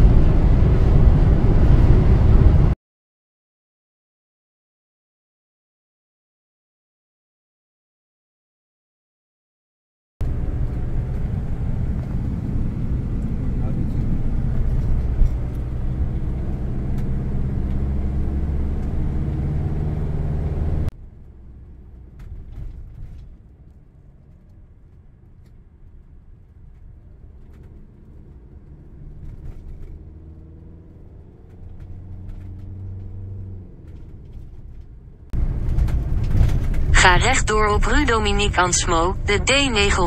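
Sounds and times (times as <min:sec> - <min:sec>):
vehicle engine and road noise: 0:00.0 - 0:02.8, 0:10.2 - 0:40.0.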